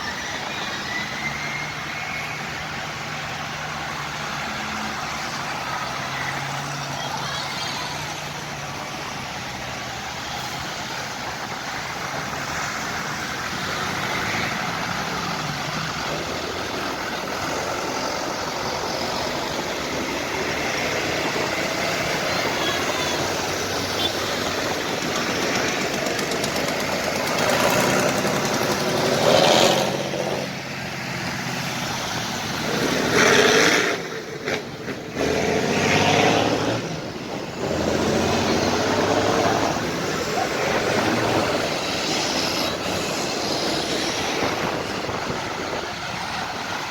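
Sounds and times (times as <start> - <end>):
tractor engines driving past: 0.0 - 46.9.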